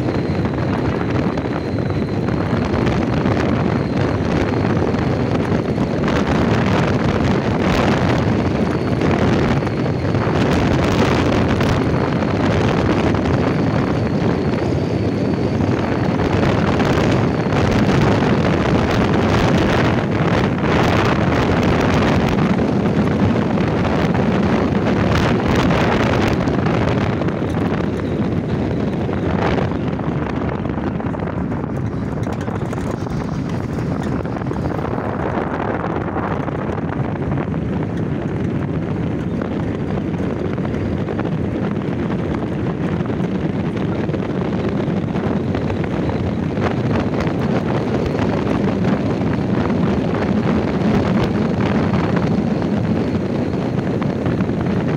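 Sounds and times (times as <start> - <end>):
car engine: 0.0 - 54.9
road noise: 0.0 - 54.9
wind buffeting microphone: 0.0 - 54.9.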